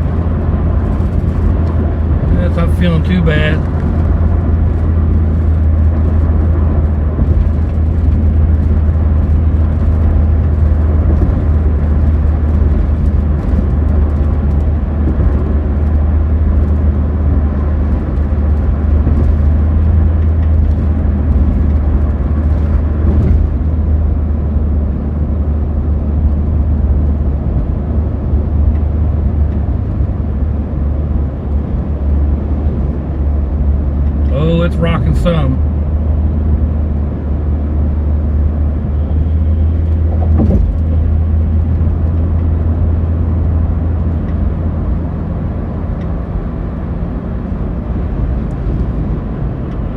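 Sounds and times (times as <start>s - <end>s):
road and wind noise in car: 0.0s - 49.9s.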